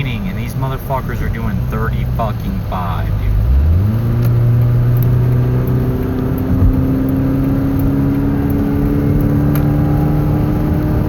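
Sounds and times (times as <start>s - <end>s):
car engine drone: 0.0s - 11.0s
road and tyre noise: 0.0s - 11.0s.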